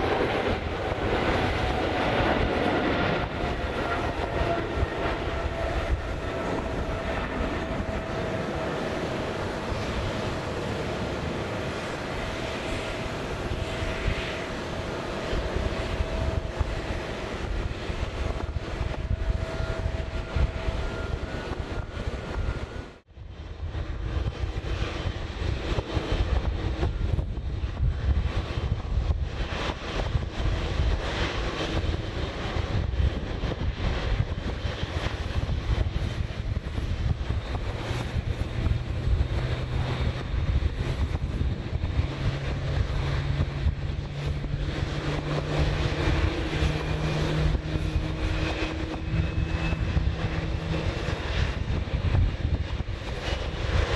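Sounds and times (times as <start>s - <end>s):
airliner engines rumbling: 0.0s - 53.9s.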